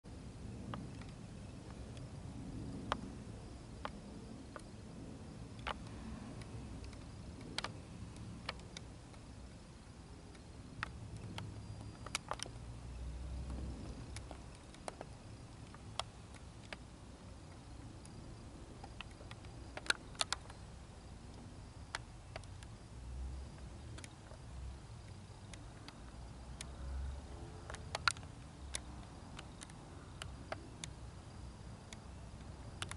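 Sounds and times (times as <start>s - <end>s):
distant jet airliner rumble: 0.1s - 32.9s.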